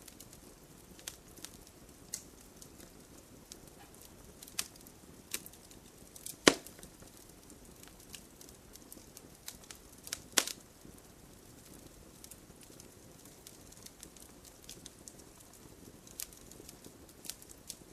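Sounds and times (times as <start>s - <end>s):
faint low hiss: 0.0s - 17.9s
fireplace fire crackling: 0.0s - 17.9s
sharp fire pops: 0.0s - 17.9s.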